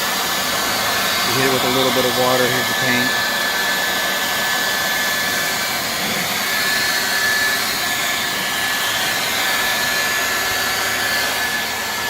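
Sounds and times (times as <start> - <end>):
leaf blower running: 0.0 - 12.0.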